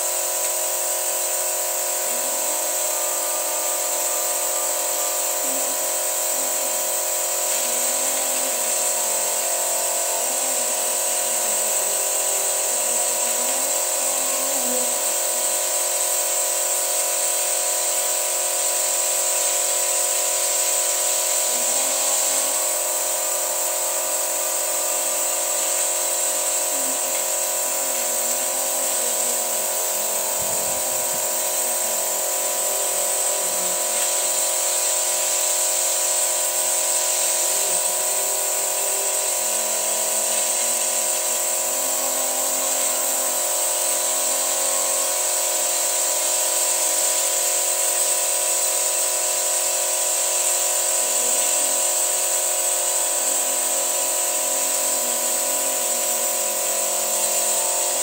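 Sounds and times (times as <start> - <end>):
high hiss: 0.0 - 58.0.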